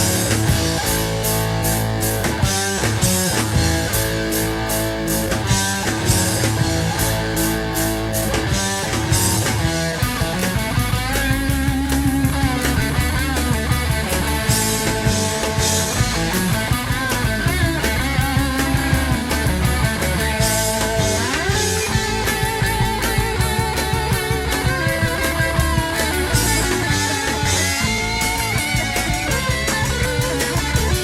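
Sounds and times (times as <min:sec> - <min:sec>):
bass guitar: 0:00.0 - 0:31.0
drum kit: 0:00.0 - 0:31.0
electric guitar: 0:00.0 - 0:31.0.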